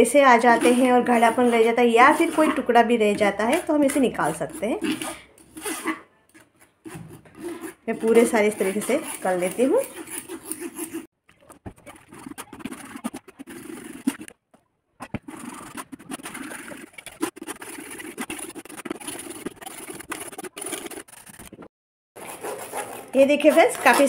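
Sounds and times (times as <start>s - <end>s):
spoon scraping pulp through strainer: 0.0s - 14.4s, 15.0s - 24.0s.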